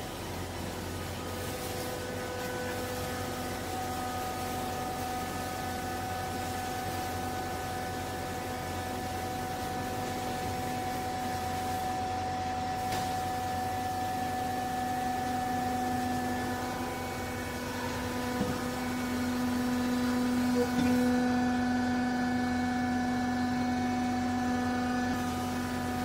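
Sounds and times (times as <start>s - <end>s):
hydraulic motor and pump hum: 0.0s - 26.0s.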